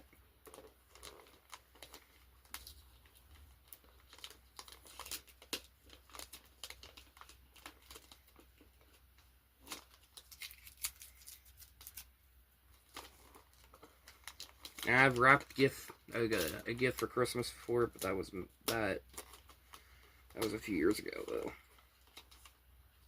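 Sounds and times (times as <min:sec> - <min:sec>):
gift wrapping crinkling and ripping: 0:00.0 - 0:23.0.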